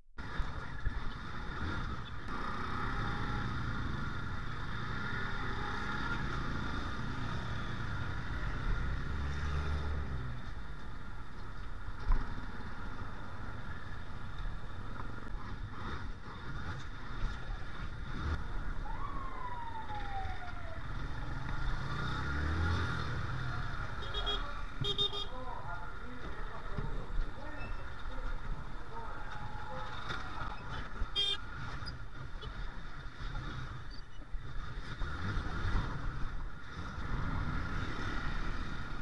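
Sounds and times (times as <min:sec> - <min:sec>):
road and traffic noise: 0:00.0 - 0:39.0.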